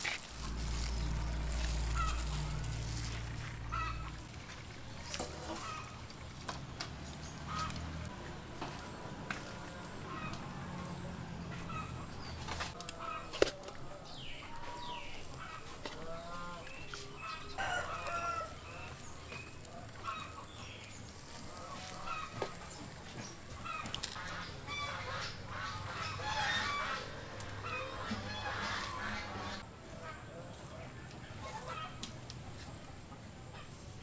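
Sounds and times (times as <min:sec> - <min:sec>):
chickens calling: 0:00.0 - 0:30.4, 0:31.3 - 0:33.9.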